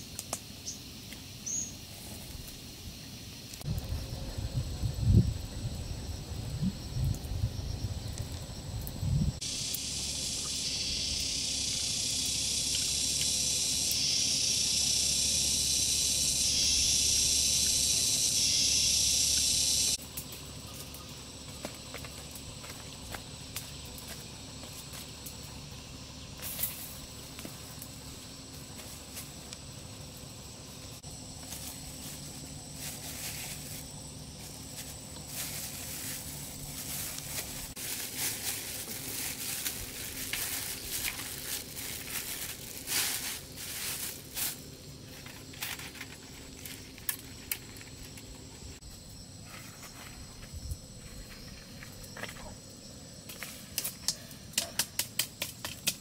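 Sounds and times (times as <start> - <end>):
insects shrilling: 0.0 - 56.0.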